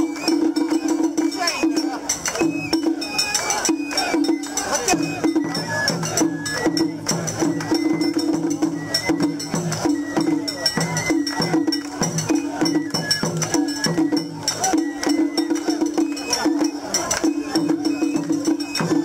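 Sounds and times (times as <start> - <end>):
festival chanting: 0.0 - 19.0.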